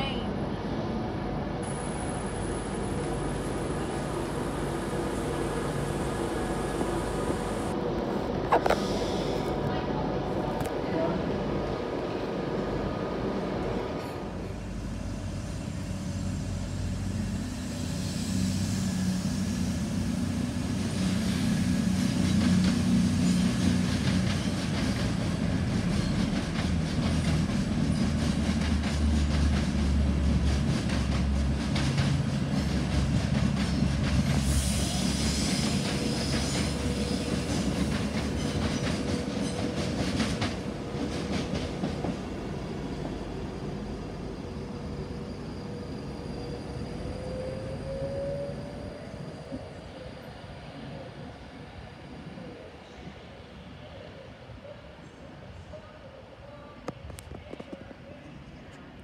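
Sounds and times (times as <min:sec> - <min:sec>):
train rumble and hum: 0:00.0 - 0:59.0.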